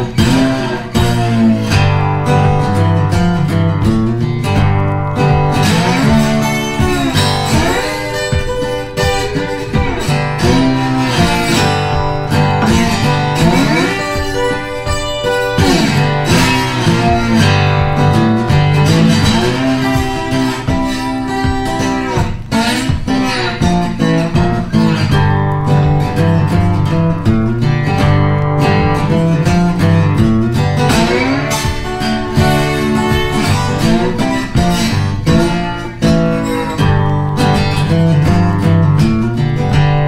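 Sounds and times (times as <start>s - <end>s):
guitar background music: 0.0s - 40.0s.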